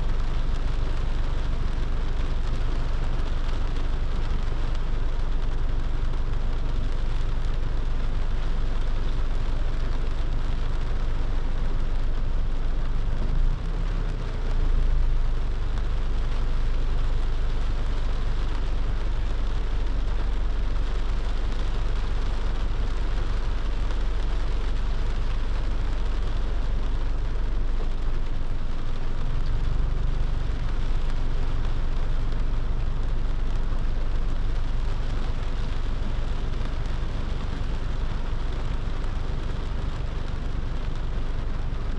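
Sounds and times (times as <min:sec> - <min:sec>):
low rumble of car and road: 0:00.0 - 0:41.9
rain falling on a car: 0:00.0 - 0:41.9.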